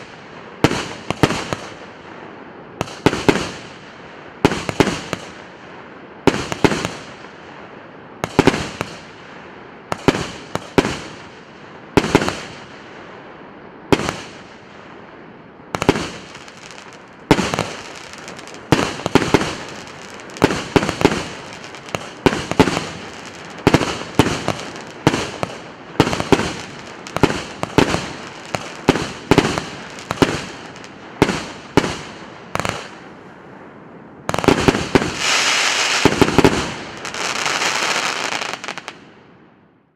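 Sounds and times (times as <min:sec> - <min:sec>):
fireworks bangs with crackling: 0:00.0 - 0:02.0, 0:02.8 - 0:05.5, 0:06.2 - 0:07.5, 0:08.2 - 0:12.9, 0:13.9 - 0:14.9, 0:15.7 - 0:33.1, 0:34.3 - 0:39.1.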